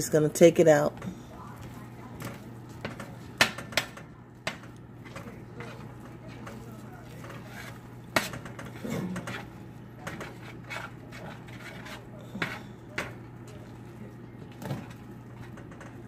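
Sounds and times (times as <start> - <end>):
steady low hum: 0.0 - 16.0
spoon scraping food: 1.0 - 16.0.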